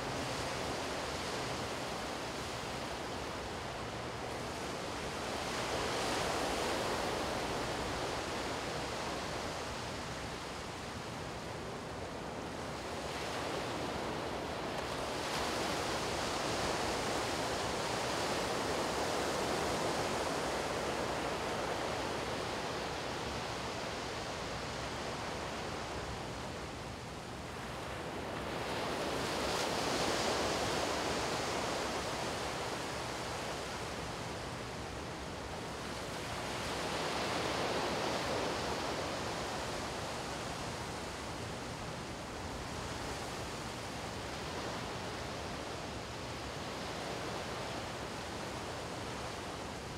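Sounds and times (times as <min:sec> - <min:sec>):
surf washing up beach: 0:00.0 - 0:49.9.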